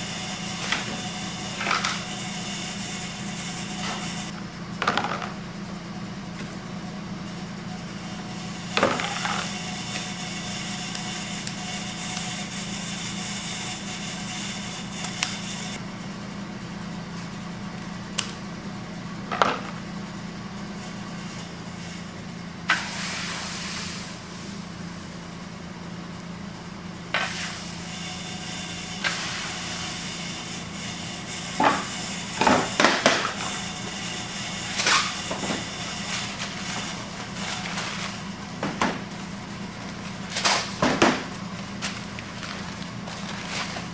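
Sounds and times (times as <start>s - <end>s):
steady machine hum: 0.0s - 43.9s.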